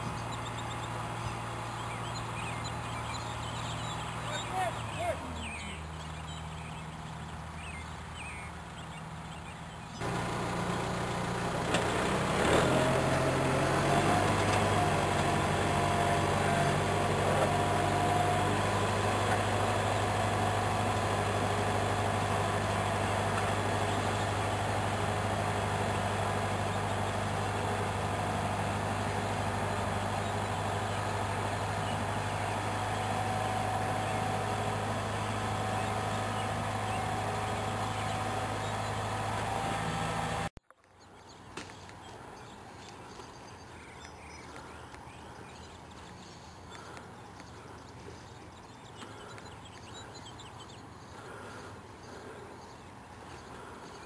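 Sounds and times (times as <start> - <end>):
tractor engine running: 0.0 - 40.6, 44.4 - 54.0.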